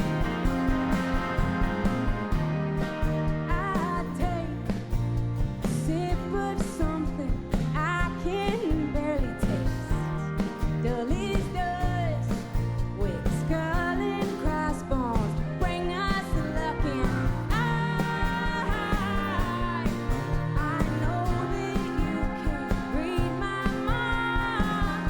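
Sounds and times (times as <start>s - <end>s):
live band playing: 0.0s - 25.0s
steady drum beat: 0.0s - 25.0s
woman singing: 3.4s - 4.9s, 5.6s - 25.0s.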